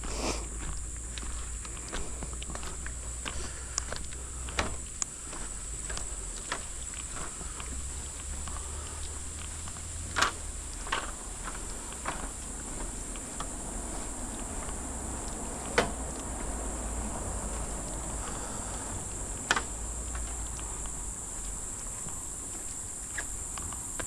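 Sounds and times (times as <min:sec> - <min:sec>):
forest insects droning: 0:00.0 - 0:24.0.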